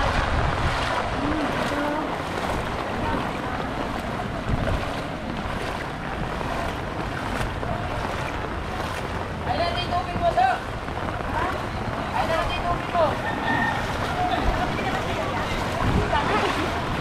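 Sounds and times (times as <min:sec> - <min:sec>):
water sloshing around wading legs: 0:00.0 - 0:17.0
wind rumbling on microphone: 0:00.0 - 0:17.0.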